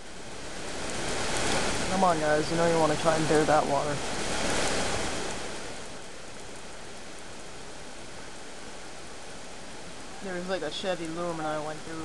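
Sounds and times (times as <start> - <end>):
fast-running creek: 0.0 - 12.0
rain: 0.0 - 12.0.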